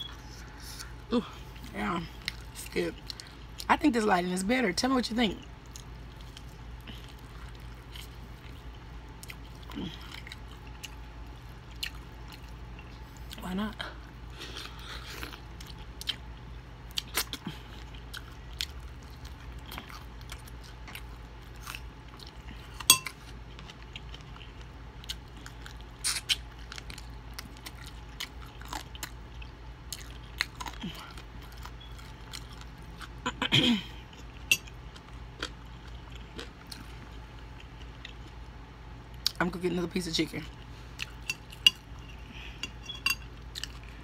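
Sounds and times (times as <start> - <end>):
chewing crisp fried chicken: 0.0 - 44.0.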